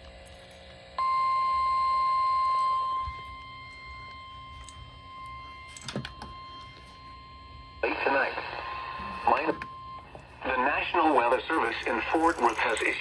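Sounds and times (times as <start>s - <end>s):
high alarm tone: 1.0s - 13.0s.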